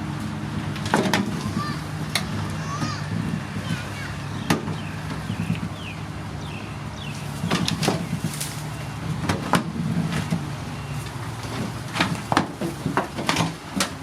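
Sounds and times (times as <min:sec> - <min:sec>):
heavy machinery diesel engine running: 0:00.0 - 0:14.0.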